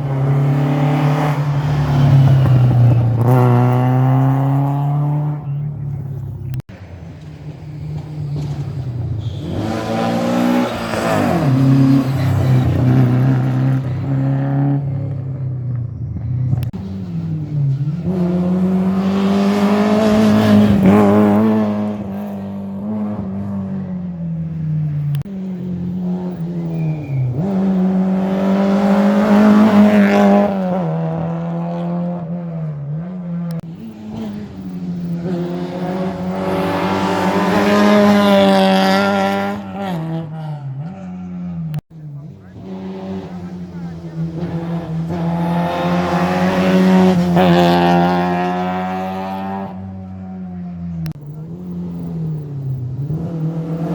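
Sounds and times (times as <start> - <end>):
cars passing by: 0.0 - 53.9
rally car engines revving: 0.0 - 53.9.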